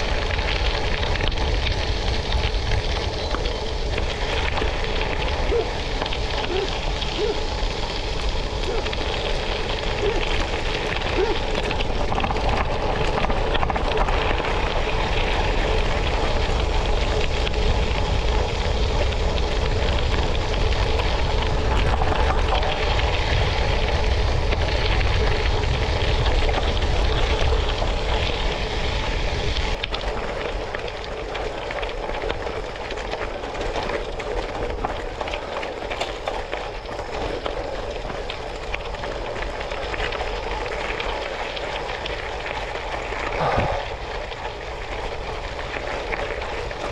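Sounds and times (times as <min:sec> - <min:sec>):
vehicle rolling over gravel: 0:00.0 - 0:46.9.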